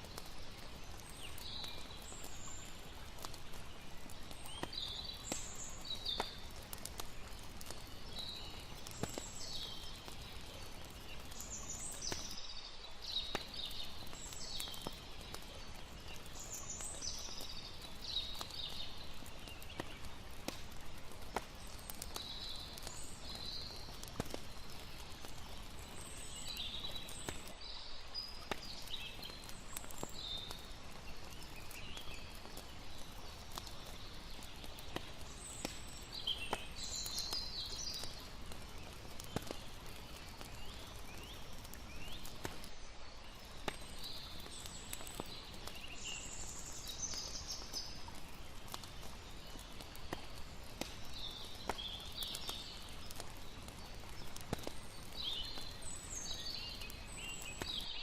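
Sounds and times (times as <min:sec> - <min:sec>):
flowing water: 0:00.0 - 0:57.5
fire crackling and popping: 0:00.0 - 0:58.0.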